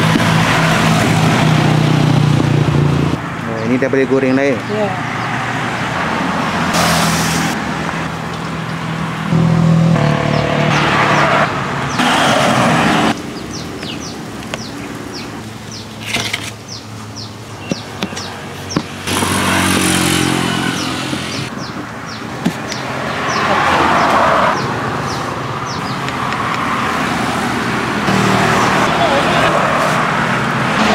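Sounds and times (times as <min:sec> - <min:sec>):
vehicles passing with engine hum: 0:00.0 - 0:30.9.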